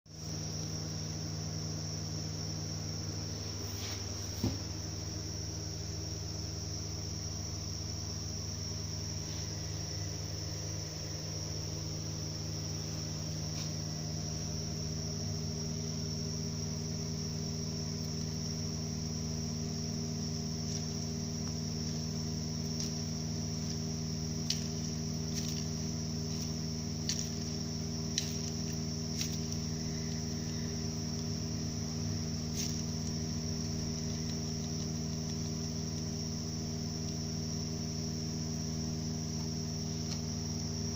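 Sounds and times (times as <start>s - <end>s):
gearbox whine: 0.1s - 40.9s
low hum: 0.2s - 40.9s.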